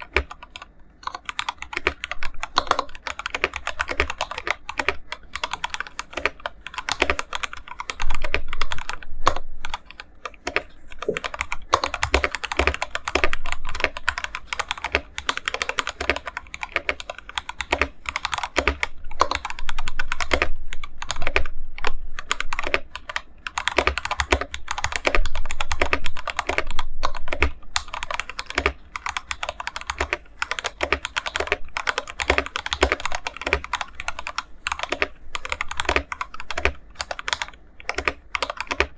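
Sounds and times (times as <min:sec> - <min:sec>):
mechanical keyboard key clacks: 0:00.0 - 0:38.9.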